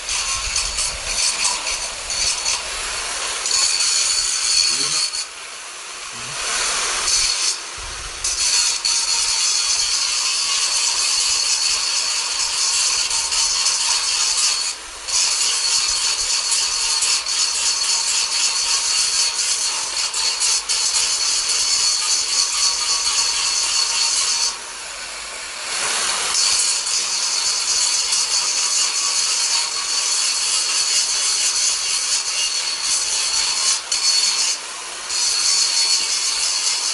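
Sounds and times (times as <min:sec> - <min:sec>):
angle grinder grinding steel: 0:00.0 - 0:36.9.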